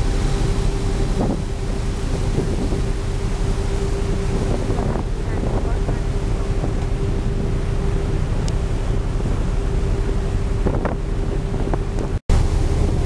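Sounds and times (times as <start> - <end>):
boat engine rumbling: 0.0 - 13.0
water rushing past hull: 0.0 - 13.0
wind buffeting microphone: 0.0 - 13.0.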